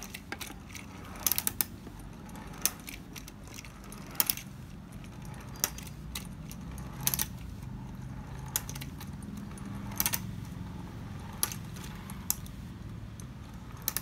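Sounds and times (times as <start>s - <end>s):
clockwork toy whirring: 0.0s - 14.0s.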